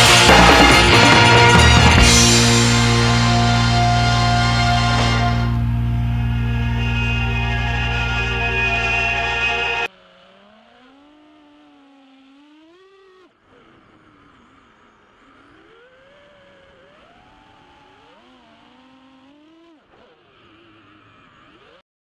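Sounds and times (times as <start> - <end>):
quadcopter motors whining: 2.9 - 21.8.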